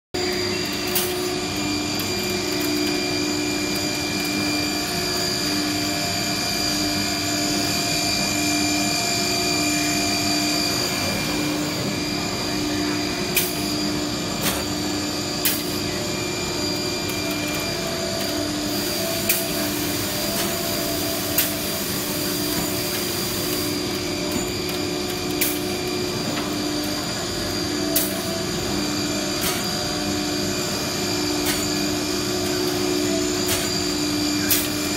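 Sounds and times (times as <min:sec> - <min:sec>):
router machine whine: 0:00.2 - 0:34.9.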